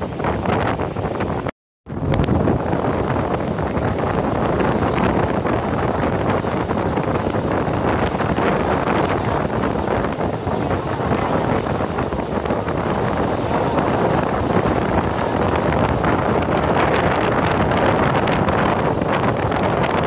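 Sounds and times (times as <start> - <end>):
boat engine: 0.0 - 20.0
churning wake: 0.0 - 20.0
wind buffeting microphone: 0.0 - 20.0.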